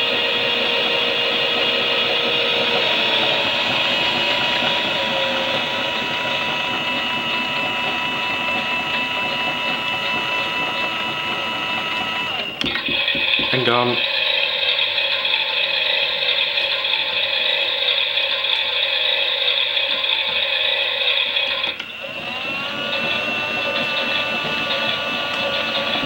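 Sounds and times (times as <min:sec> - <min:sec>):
toy motor and gears whining: 0:00.0 - 0:26.0.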